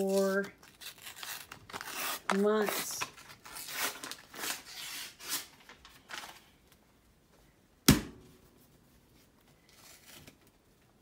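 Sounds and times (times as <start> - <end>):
rustling and handling noises: 0.0 - 7.6, 8.3 - 11.0.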